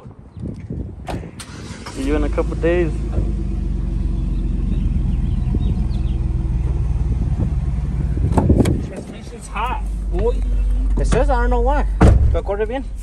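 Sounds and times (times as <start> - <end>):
pickup truck engine idling: 1.4 - 12.0.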